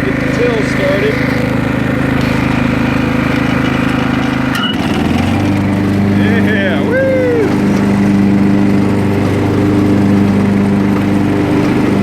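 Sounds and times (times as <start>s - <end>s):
lawn mower engine humming: 0.0s - 12.0s.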